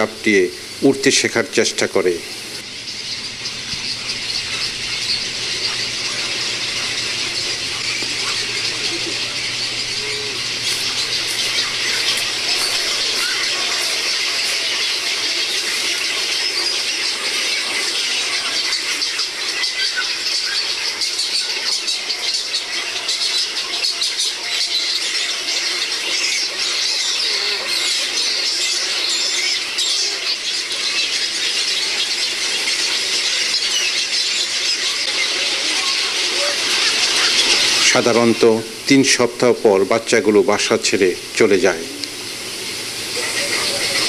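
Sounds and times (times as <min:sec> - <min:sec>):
herons squealing and squawking: 0:00.0 - 0:44.0.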